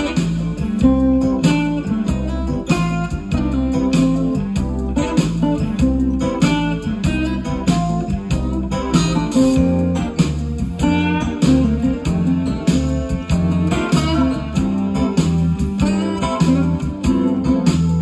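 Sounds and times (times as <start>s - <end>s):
guitar-led music with beat: 0.0s - 18.0s.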